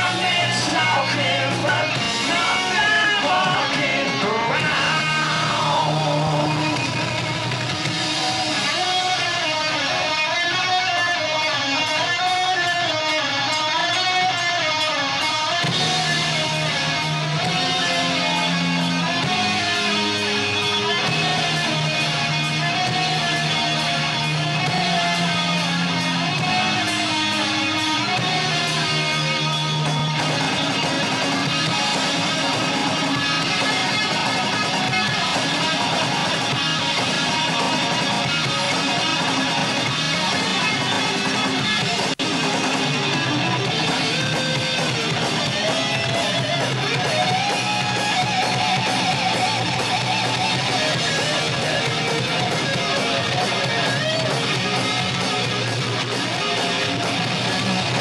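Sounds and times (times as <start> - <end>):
heavy metal band playing: 0.0 - 58.0.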